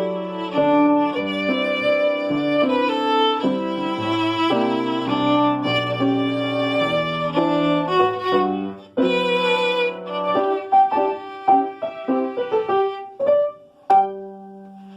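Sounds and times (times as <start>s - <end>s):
violin over chords: 0.0s - 13.2s.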